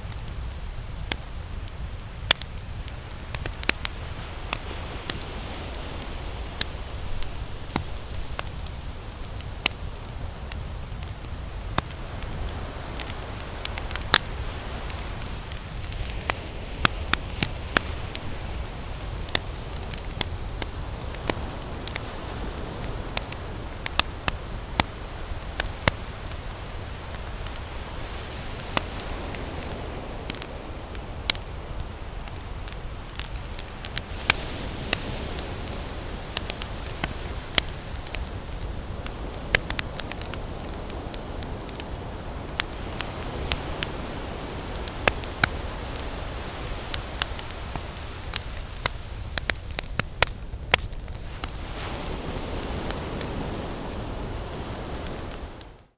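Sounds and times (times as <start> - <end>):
campfire crackling: 0.0 - 55.9.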